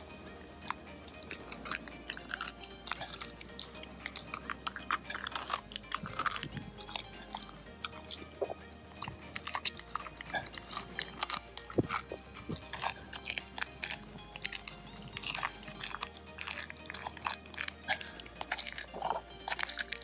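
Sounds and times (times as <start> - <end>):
dog chewing and crunching food: 0.0 - 20.0
electronic music: 0.0 - 20.0.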